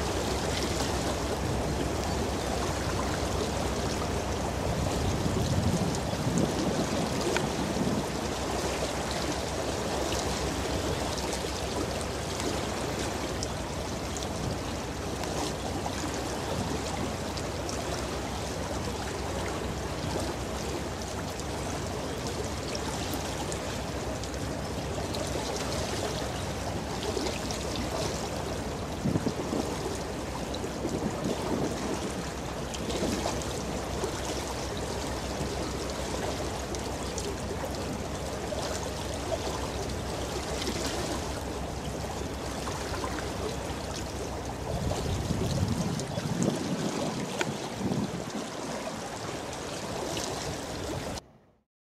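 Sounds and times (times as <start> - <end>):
louder water splashes: 0.0 - 51.2
low steady rumble: 0.0 - 51.6
water rushing along ship hull: 0.0 - 51.6.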